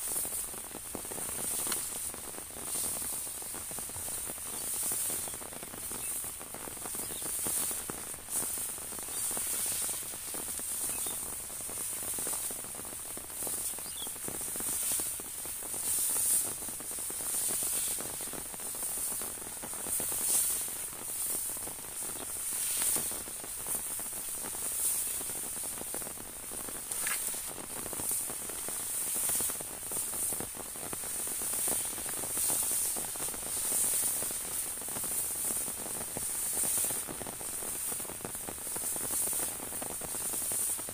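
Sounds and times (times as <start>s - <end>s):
light rain on umbrella: 0.0s - 40.9s.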